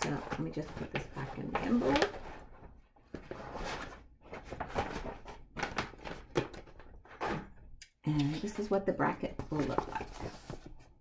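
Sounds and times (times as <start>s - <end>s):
paper rustling and crinkling: 0.0s - 7.4s, 9.3s - 11.0s.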